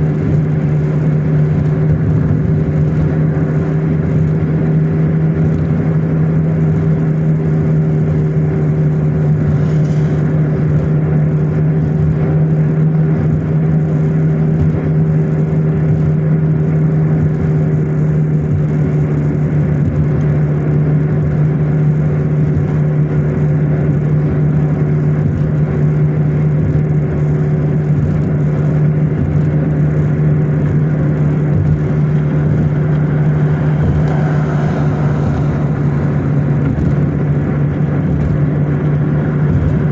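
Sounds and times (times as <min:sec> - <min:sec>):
road noise: 0:00.0 - 0:24.2, 0:27.8 - 0:39.9
car engine: 0:00.0 - 0:39.9.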